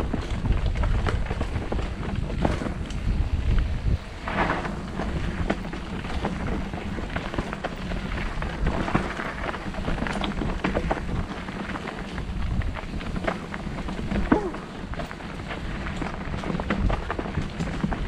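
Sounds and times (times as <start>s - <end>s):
wind on microphone: 0.0s - 15.0s
bike rattling over bumps: 0.0s - 18.0s
bike tyres crunching over dirt: 0.0s - 18.0s.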